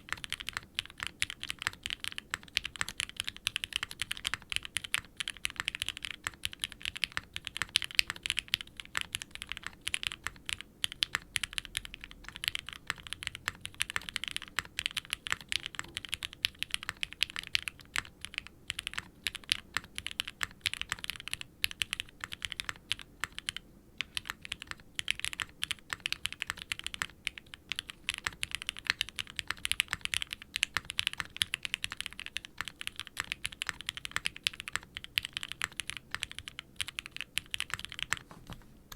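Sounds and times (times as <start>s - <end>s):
fast typing on mechanical keyboard: 0.0s - 38.3s.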